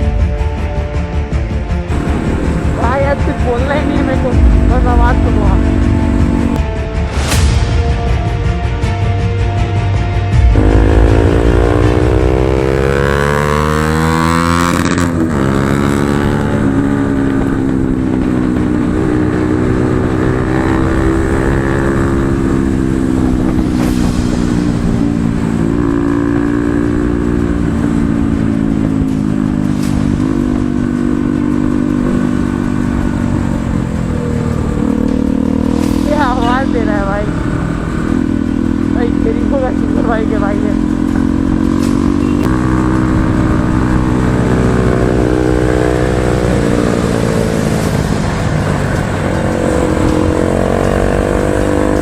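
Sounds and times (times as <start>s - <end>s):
motorcycle engine revving: 1.9s - 7.2s, 10.3s - 52.0s.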